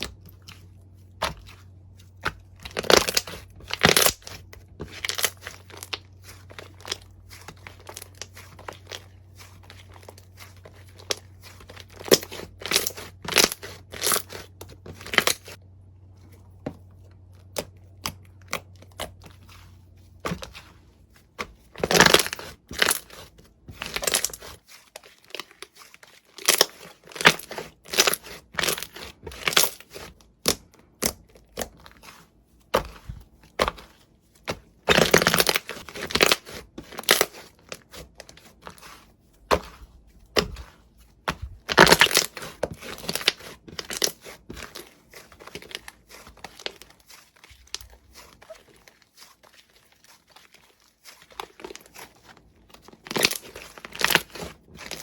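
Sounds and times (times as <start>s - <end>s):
slime crackling and crunching: 0.0s - 15.6s, 17.4s - 55.0s.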